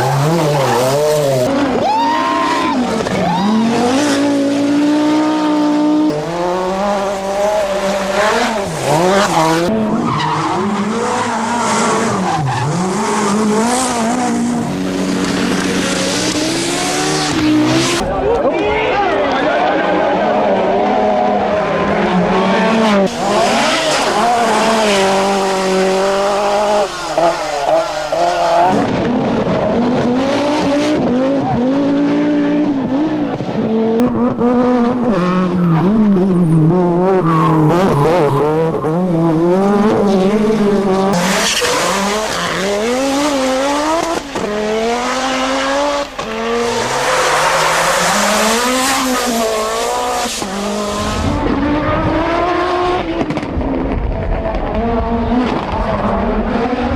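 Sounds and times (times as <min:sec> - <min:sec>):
rally car engines revving: 0:00.0 - 0:56.9.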